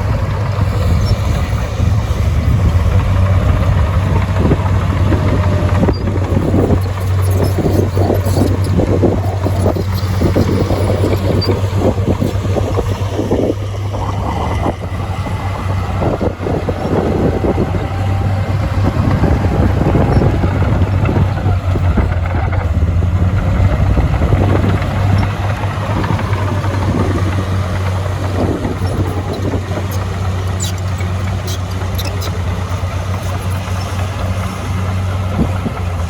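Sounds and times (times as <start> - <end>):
diesel engine humming: 0.0 - 36.0
machinery clatter and knocks: 0.0 - 36.0.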